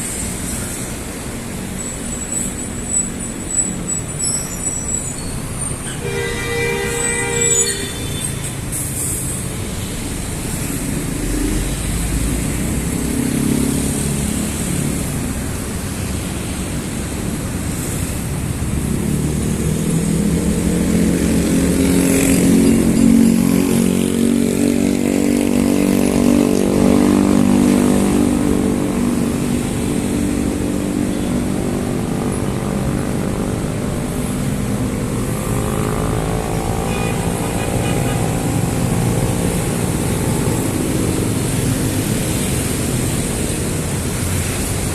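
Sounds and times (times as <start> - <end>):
city road traffic: 0.0 - 44.9
vehicle engine hum: 8.5 - 44.9.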